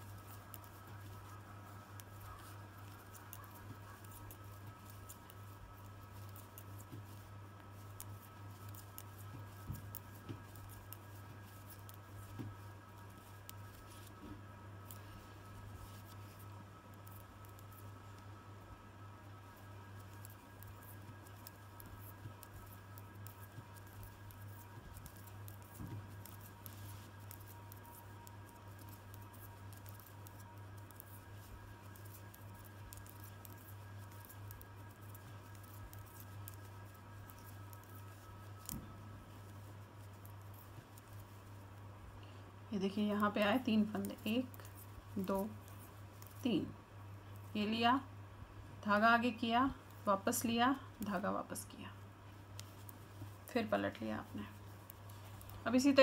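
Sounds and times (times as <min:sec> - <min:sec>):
knitting needles clicking: 0:00.0 - 0:14.2, 0:15.6 - 0:18.2, 0:19.4 - 0:41.5, 0:43.0 - 0:46.7, 0:52.5 - 0:56.0
steady low hum: 0:00.0 - 0:56.0.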